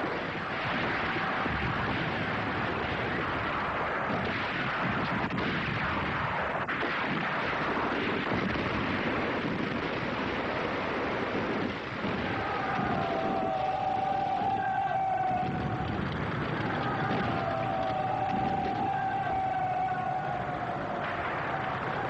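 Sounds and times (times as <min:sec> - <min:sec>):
rocket artillery barrage roar: 0:00.0 - 0:22.0.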